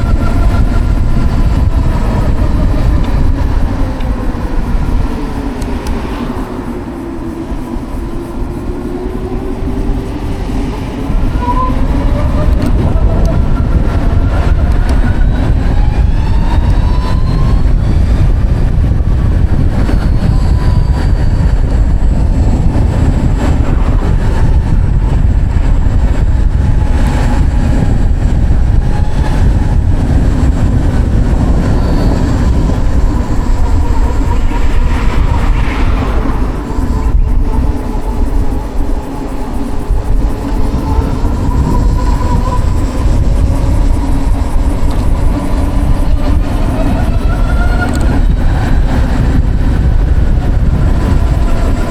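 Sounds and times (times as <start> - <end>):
heavy wind: 0.0 - 51.9
road rumble: 0.0 - 51.9
electric motor whining: 9.1 - 51.9.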